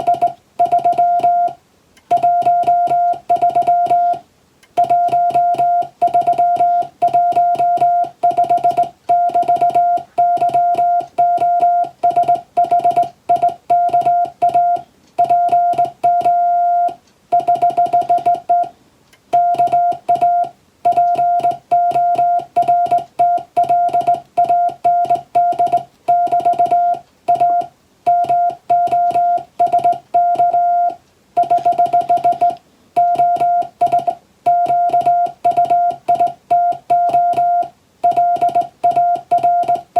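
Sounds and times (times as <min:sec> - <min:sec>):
morse code beeps: 0:00.0 - 0:04.2, 0:04.8 - 0:39.9.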